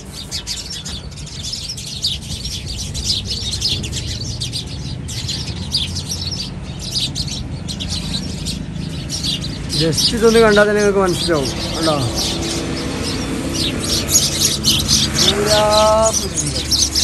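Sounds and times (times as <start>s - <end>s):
small birds chirping chorus: 0.0s - 17.0s
steady low rumble: 0.0s - 17.0s.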